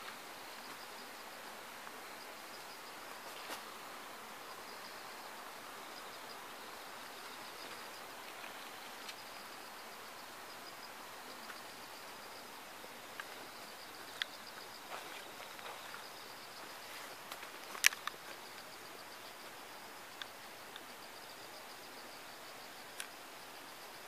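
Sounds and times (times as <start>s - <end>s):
faint outdoor hiss: 0.0s - 24.0s
insects chirping: 0.0s - 24.0s.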